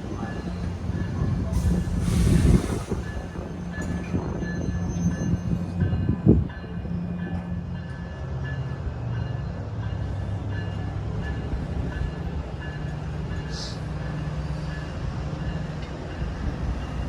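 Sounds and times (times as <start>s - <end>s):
train humming: 0.0s - 17.0s.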